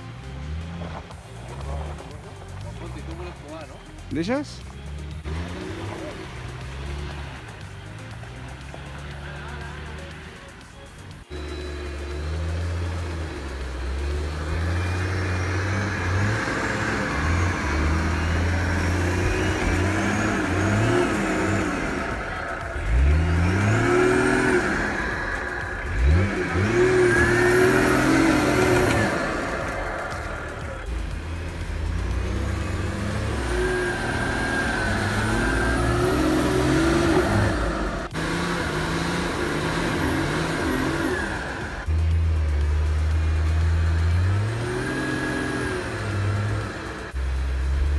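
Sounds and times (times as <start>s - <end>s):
off-road vehicle engine under load: 0.0s - 47.9s.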